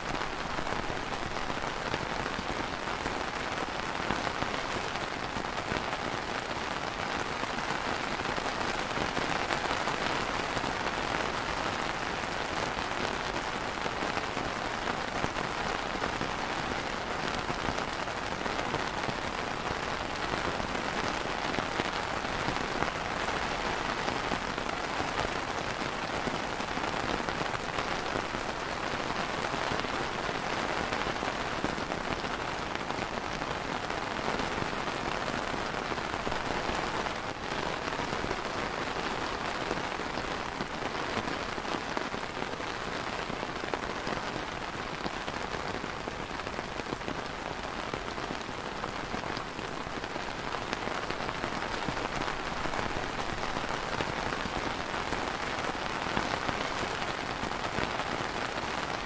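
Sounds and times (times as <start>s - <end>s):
rain on plastic umbrella: 0.0s - 59.0s.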